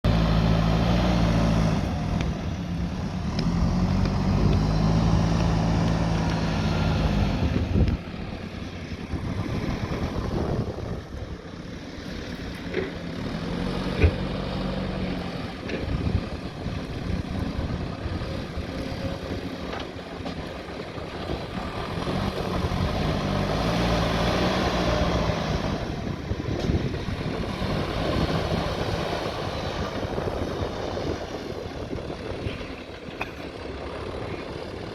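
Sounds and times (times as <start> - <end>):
earthmoving machine diesel engine: 0.0 - 34.9.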